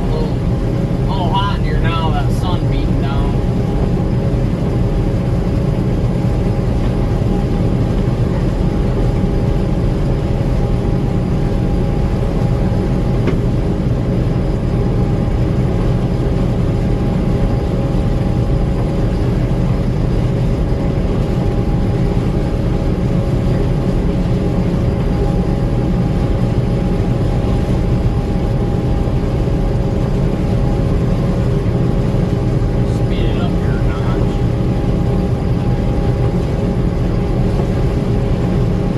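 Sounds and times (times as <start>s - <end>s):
combine harvester drone: 0.0s - 38.9s.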